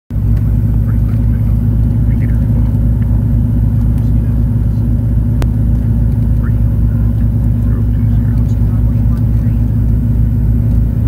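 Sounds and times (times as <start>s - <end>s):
aircraft engine drone: 0.1s - 11.0s.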